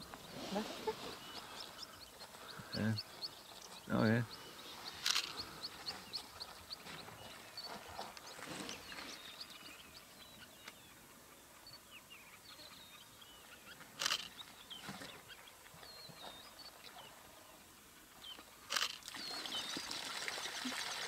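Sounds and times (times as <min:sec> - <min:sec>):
small birds chirping: 0:00.0 - 0:20.8.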